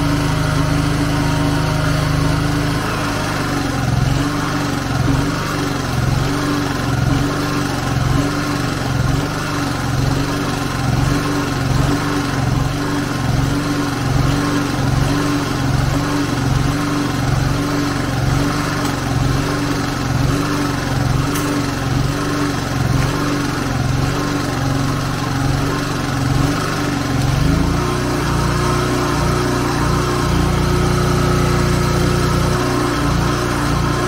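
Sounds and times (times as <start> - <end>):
generator engine running: 0.0 - 34.0.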